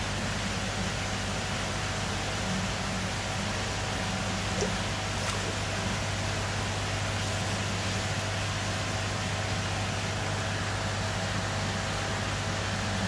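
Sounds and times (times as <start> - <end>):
pump humming: 0.0 - 13.0.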